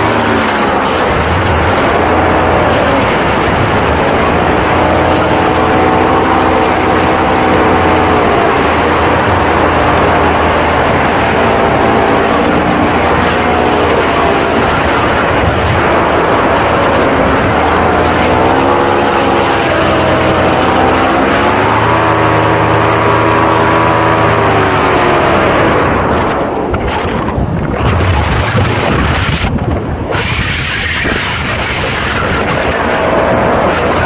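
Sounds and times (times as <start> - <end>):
paramotor engine and propeller: 0.0 - 34.0.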